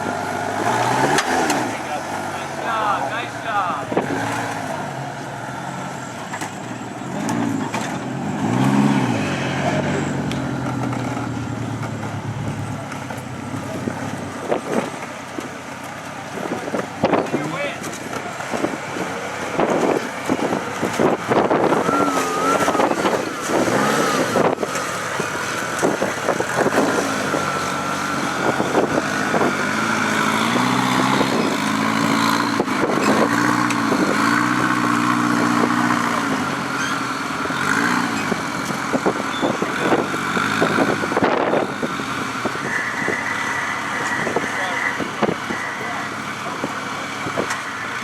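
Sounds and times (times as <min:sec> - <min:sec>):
buggy engine revving: 0:00.0 - 0:48.0.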